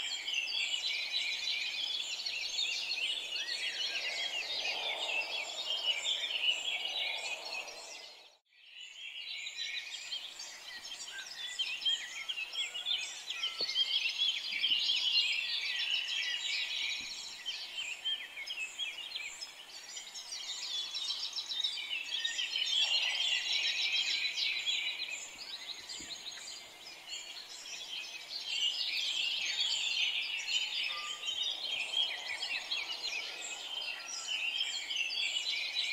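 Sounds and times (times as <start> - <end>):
small birds chirping and trilling: 0.0 - 35.9.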